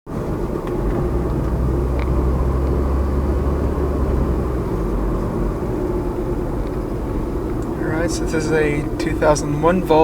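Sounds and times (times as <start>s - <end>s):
car engine running steadily: 0.1s - 10.0s.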